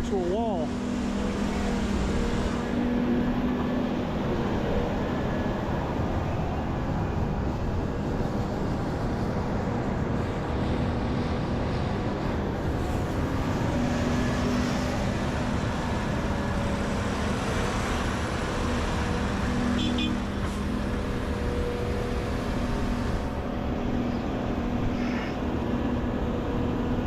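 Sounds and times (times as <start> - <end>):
heavy diesel machinery engine drone: 0.0 - 27.0.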